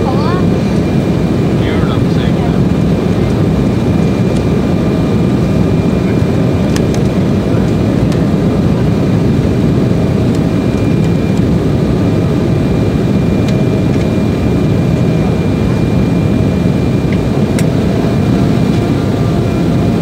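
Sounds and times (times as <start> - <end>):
jet engine drone: 0.0 - 20.0.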